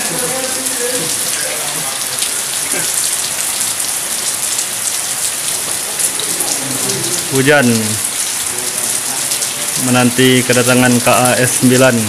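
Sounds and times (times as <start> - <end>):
rain on a roof: 0.0 - 12.0
water dripping: 0.0 - 12.0.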